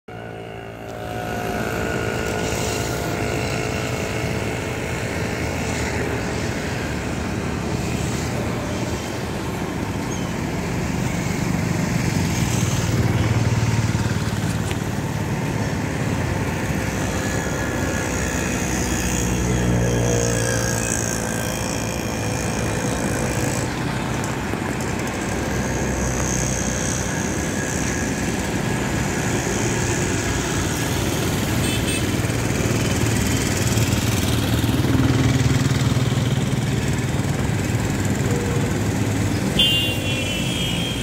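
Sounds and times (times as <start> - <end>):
engine running with low hum: 0.0 - 41.0.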